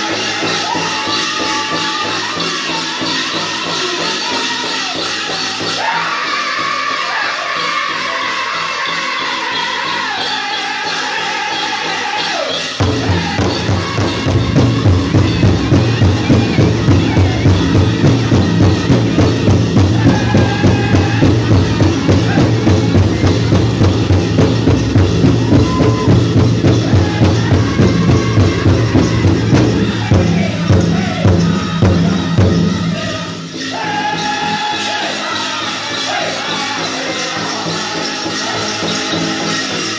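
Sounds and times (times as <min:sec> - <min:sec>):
big drum fast beat: 0:00.0 - 0:08.8, 0:11.1 - 0:39.9
high-pitched group singing: 0:00.0 - 0:39.9
leg bells jingling: 0:00.0 - 0:39.9.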